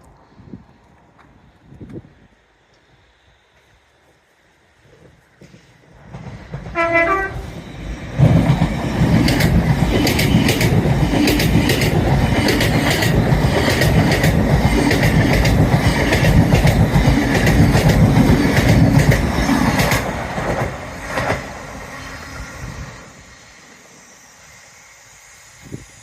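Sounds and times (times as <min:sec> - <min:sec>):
train running past: 0:00.0 - 0:26.0.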